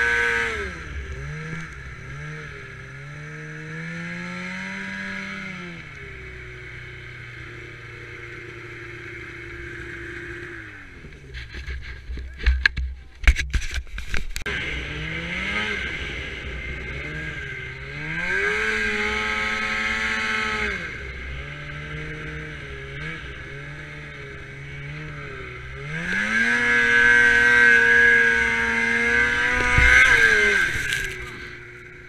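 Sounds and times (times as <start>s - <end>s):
snowmobile engine revving: 0.0s - 12.4s, 14.5s - 32.0s.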